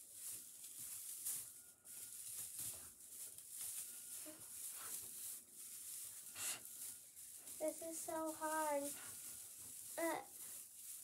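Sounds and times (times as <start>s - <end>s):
artificial tree needles rustling: 0.0s - 11.0s.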